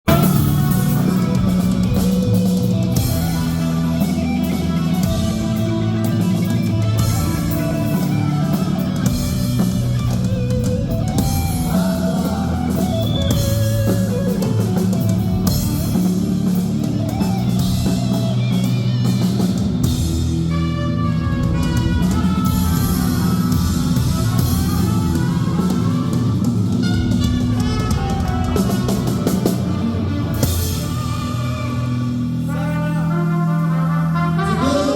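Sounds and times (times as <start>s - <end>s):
bass guitar: 0.0s - 34.9s
drum kit with cymbal hits: 0.0s - 34.9s
electric guitar: 0.0s - 34.9s.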